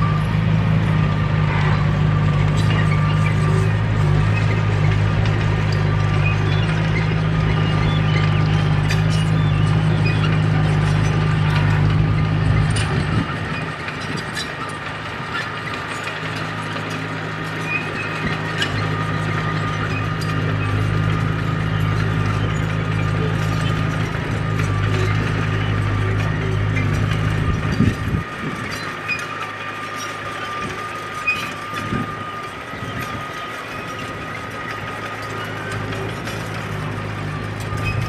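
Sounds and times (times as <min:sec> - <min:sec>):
bulldozer diesel engine drone: 0:00.0 - 0:38.0
steel tracks clanking: 0:00.0 - 0:38.0
thin mechanical whine: 0:00.0 - 0:38.0.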